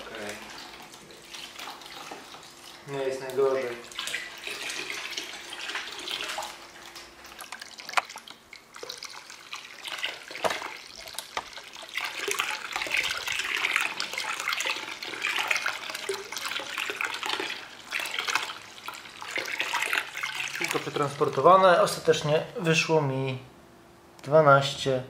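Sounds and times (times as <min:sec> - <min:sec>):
liquid splashing into bucket: 0:00.0 - 0:21.6.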